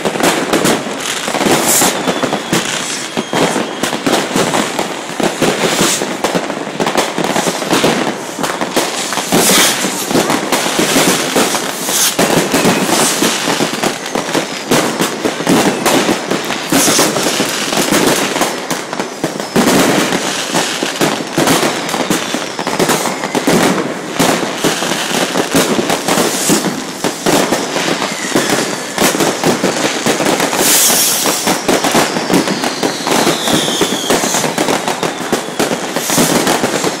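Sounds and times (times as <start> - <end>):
descending firework whistle: 0.0 - 37.0
fireworks banging and crackling: 0.0 - 37.0.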